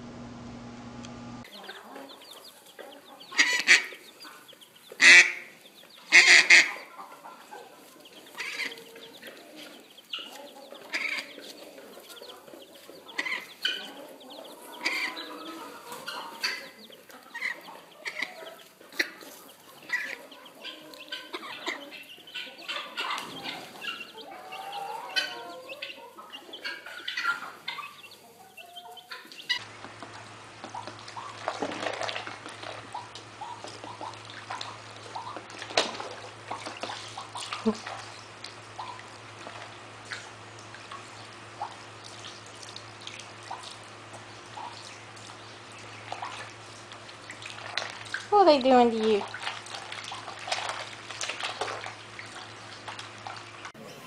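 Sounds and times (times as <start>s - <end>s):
loud poultry calls: 1.4s - 48.2s
poultry clucking and honking: 1.4s - 54.0s.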